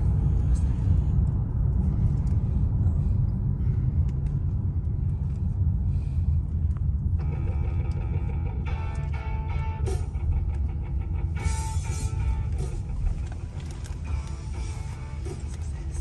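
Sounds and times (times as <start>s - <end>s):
car road and engine rumble: 0.0s - 16.0s
faint music: 0.0s - 16.0s.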